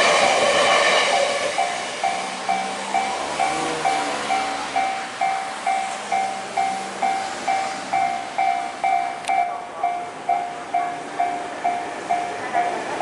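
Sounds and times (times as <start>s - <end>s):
passing train: 0.0s - 13.0s
level crossing bell ringing: 1.6s - 13.0s.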